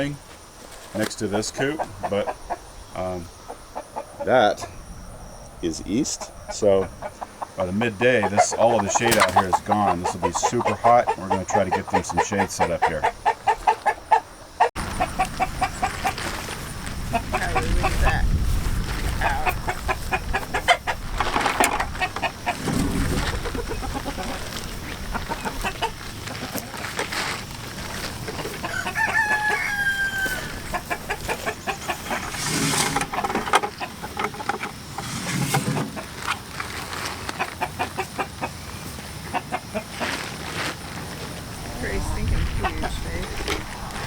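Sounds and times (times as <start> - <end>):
chickens clucking: 0.0 - 4.8, 5.7 - 40.7, 41.5 - 44.0.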